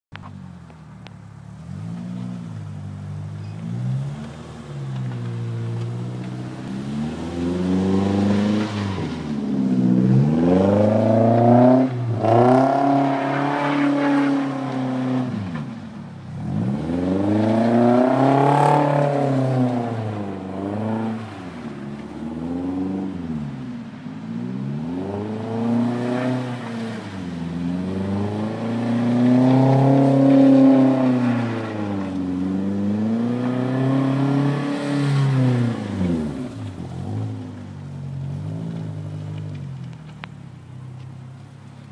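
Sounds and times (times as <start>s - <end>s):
car engine revving: 0.2s - 41.5s.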